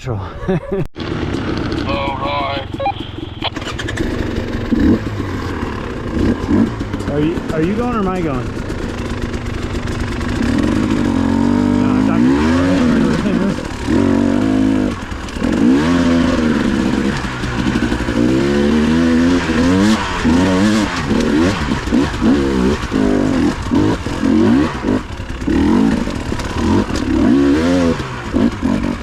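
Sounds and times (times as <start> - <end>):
dirt bike engine revving: 1.0 - 29.0.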